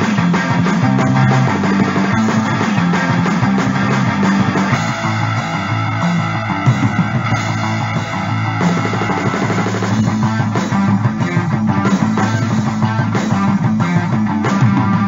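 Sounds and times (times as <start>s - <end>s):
bass line: 0.0s - 15.0s
distorted electric guitar: 0.0s - 15.0s.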